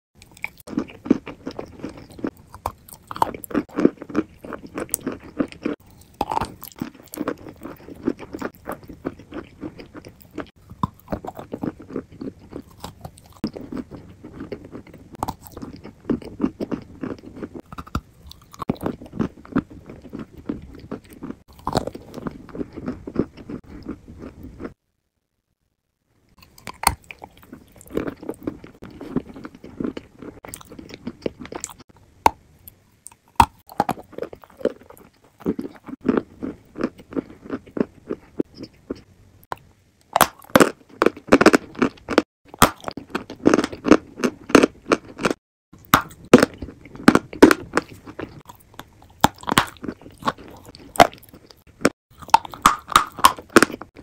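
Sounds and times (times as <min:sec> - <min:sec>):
crunching and chewing dry blocks: 0:00.2 - 0:24.8, 0:26.3 - 0:54.0.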